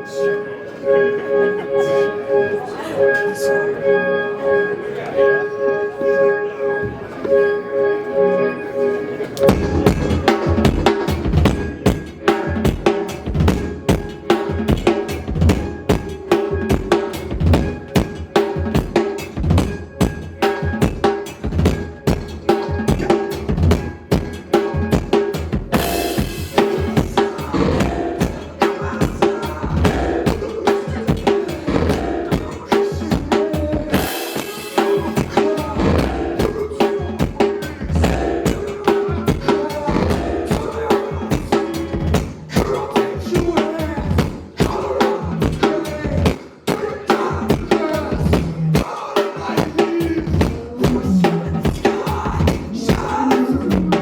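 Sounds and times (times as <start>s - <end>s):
live band music: 0.0s - 54.0s
rapid drum-kit playing: 9.4s - 54.0s.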